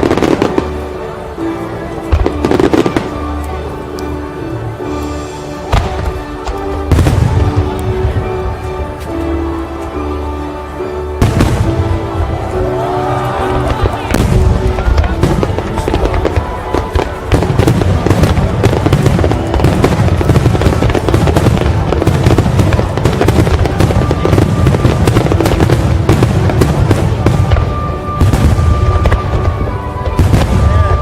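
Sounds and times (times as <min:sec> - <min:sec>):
fireworks bursting and crackling: 0:00.0 - 0:09.8, 0:11.1 - 0:31.0
music playing: 0:00.0 - 0:31.0.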